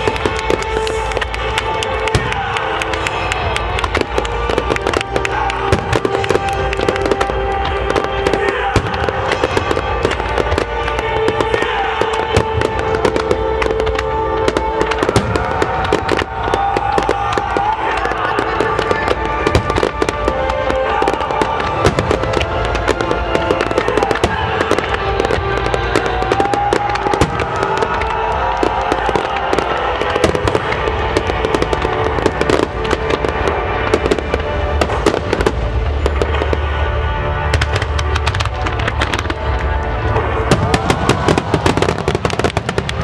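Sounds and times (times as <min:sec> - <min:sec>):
fireworks bursting and crackling: 0:00.0 - 0:43.0
loud music: 0:00.0 - 0:43.0.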